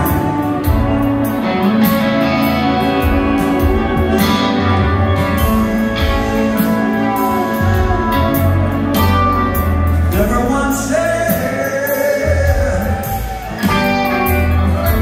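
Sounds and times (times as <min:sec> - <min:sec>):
drums and cymbals: 0:00.0 - 0:15.0
guitar: 0:00.0 - 0:15.0
keyboards: 0:00.0 - 0:15.0.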